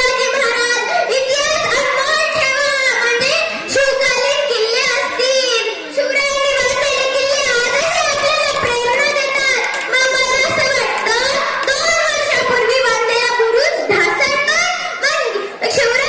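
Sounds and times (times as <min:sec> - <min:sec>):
girl singing: 0:00.0 - 0:16.0.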